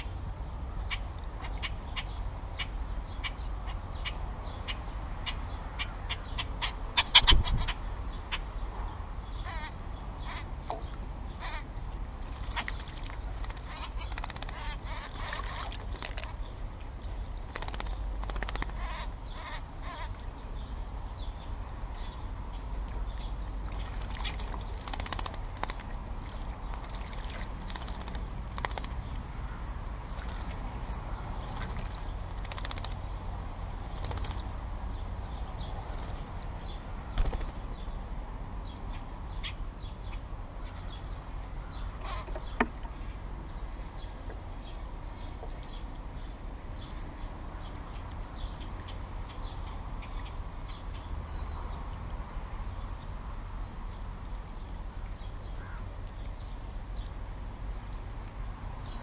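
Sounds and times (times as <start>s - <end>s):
low outdoor rumble: 0.0s - 59.0s
small birds chirping: 0.8s - 52.0s.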